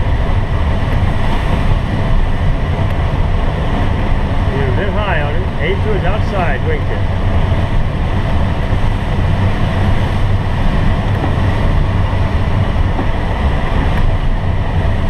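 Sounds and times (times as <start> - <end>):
rush of air in cockpit: 0.0 - 15.0
wind buffeting microphone: 0.0 - 15.0.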